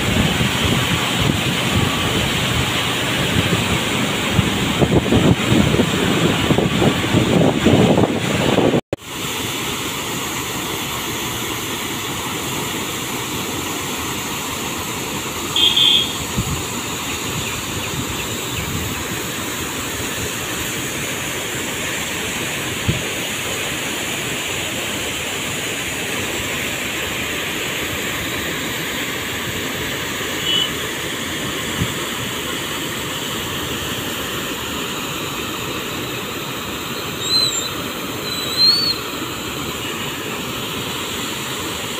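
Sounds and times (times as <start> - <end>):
water jets rushing and splashing: 0.0 - 41.9.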